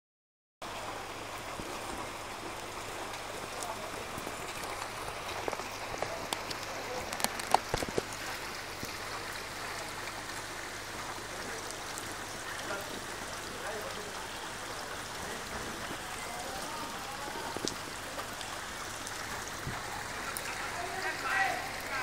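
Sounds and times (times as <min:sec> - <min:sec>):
heavy rain on floodwater: 0:00.6 - 0:22.0.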